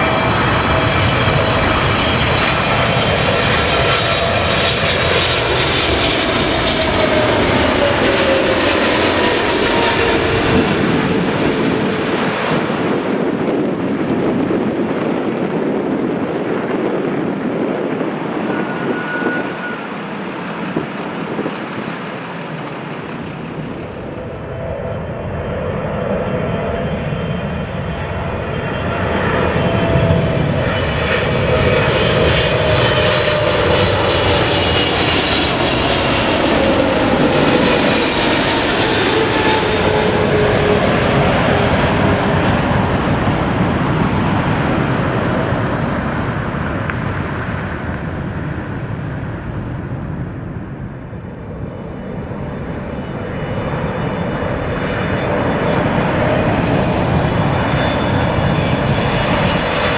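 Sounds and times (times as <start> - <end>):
jet airliner roar: 0.0 - 59.9.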